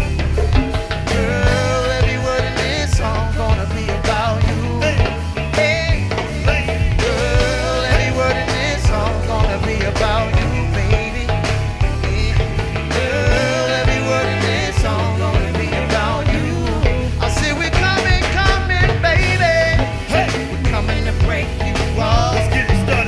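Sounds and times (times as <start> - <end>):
live band music: 0.0 - 23.0.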